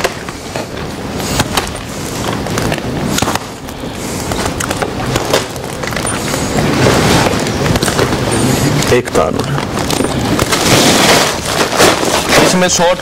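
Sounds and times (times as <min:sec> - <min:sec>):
handling noise: 0:00.0 - 0:13.0.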